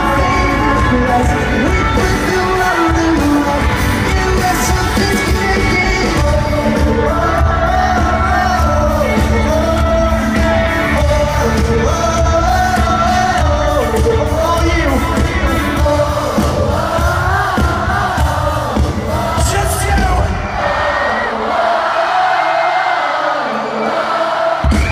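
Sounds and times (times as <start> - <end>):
person singing: 0.0 - 20.2
pop-rock band playing live: 0.0 - 21.2.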